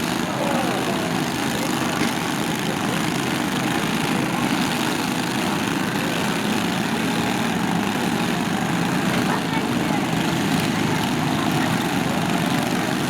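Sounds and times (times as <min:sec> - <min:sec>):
lawn tractor engines running: 0:00.0 - 0:13.0.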